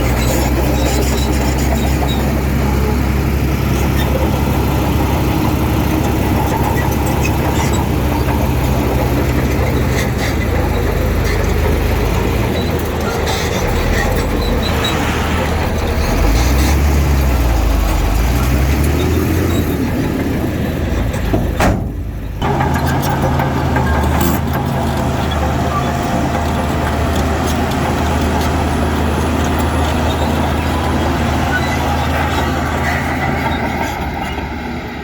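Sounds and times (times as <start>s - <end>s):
heavy diesel engine under load: 0.0s - 35.0s.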